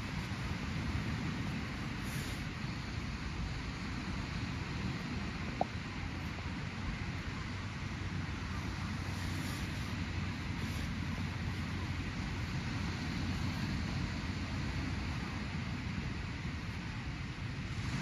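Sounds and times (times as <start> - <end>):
sea surf washing on beach: 0.0 - 18.0.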